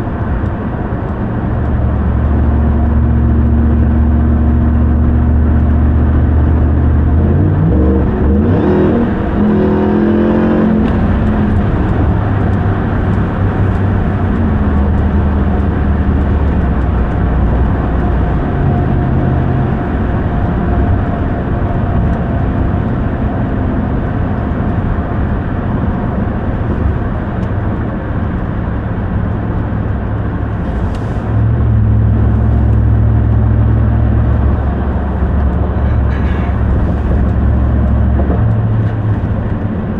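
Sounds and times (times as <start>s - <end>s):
road noise: 0.0s - 39.9s
truck engine revving: 1.8s - 24.5s, 28.9s - 39.9s.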